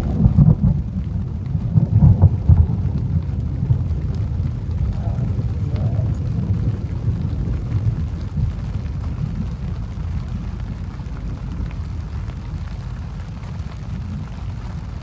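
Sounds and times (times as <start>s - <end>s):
faint rain ticks: 0.0s - 15.0s
low storm rumble: 0.0s - 15.0s.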